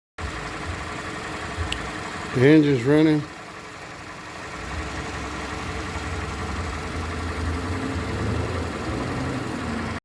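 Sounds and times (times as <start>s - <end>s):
car engine idling: 0.2s - 10.0s.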